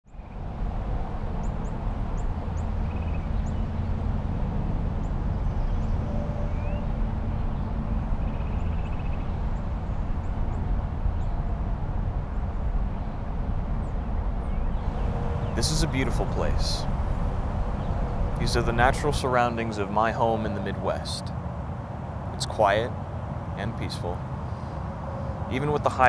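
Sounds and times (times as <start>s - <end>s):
birds chirping: 0.1s - 26.0s
distant highway traffic rumble: 0.1s - 26.0s.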